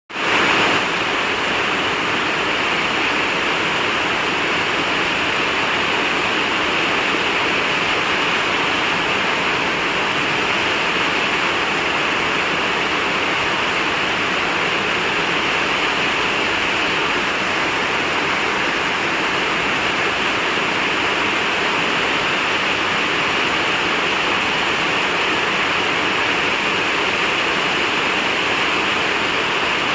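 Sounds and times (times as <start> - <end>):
steady rain: 0.1 - 29.9.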